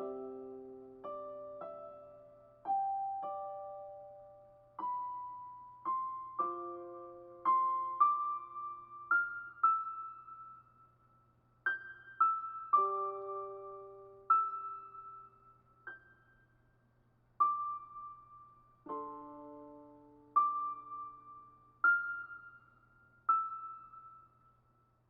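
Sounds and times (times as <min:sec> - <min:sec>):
solo piano notes and chords: 0:00.0 - 0:16.5, 0:17.4 - 0:24.8.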